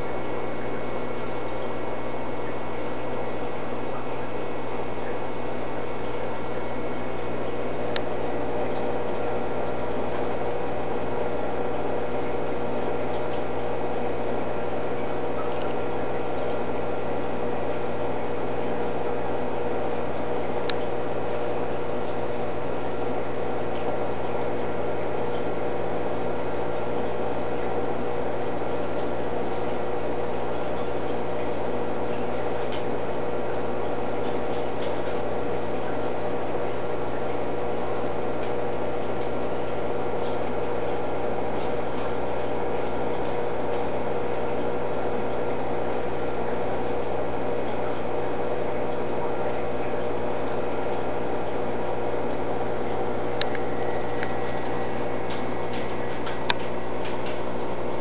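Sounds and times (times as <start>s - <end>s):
aquarium pump humming: 0.0s - 58.0s.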